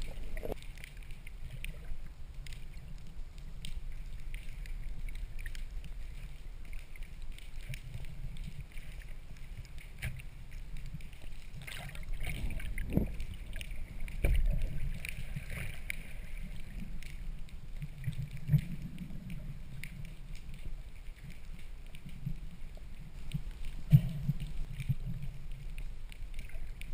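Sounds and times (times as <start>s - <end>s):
underwater rumble of moving water: 0.0s - 26.9s.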